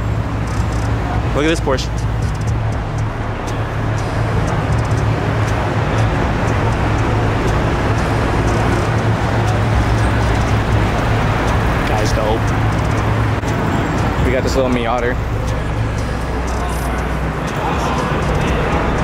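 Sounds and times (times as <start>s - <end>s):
car engine deep drone: 0.0s - 19.0s.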